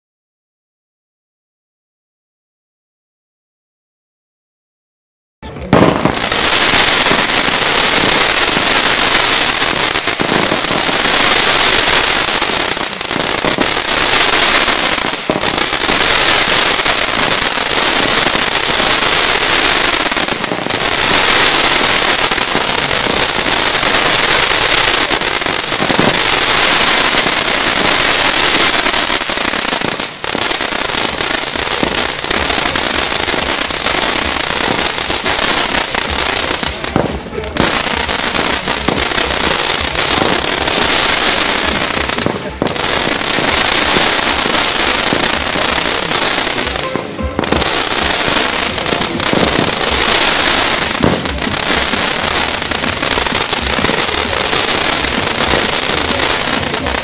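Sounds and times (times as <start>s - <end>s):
firework battery crackling: 5.4s - 57.0s.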